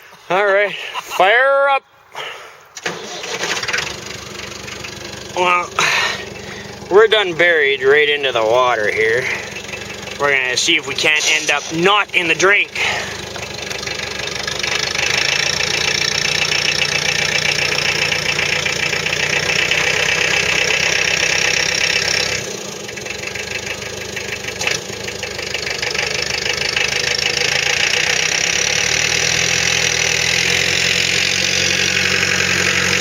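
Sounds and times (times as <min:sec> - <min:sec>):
engine running: 0:02.2 - 0:33.0.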